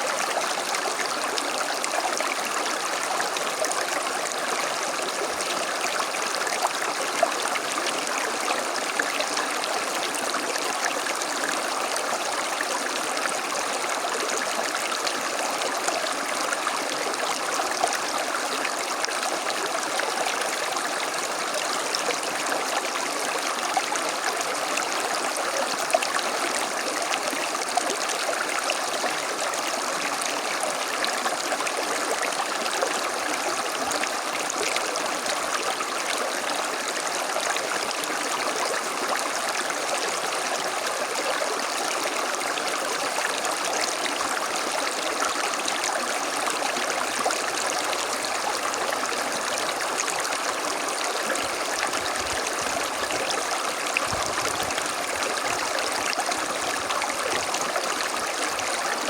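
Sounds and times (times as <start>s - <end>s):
creek running over stones: 0.0s - 59.0s.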